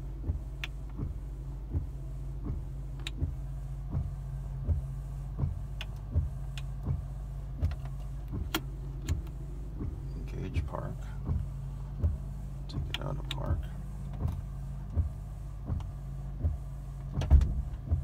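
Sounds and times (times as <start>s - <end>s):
car engine idling: 0.0s - 18.0s
windshield wipers knocking: 0.1s - 18.0s.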